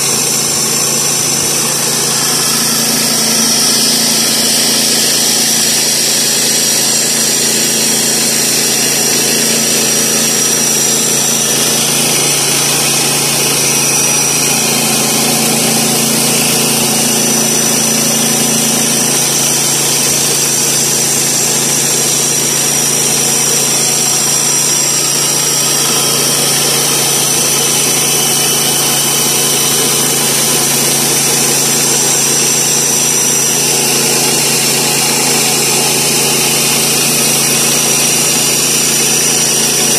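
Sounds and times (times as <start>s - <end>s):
high saw whine: 0.0s - 39.9s
sawmill engine under load: 0.0s - 39.9s.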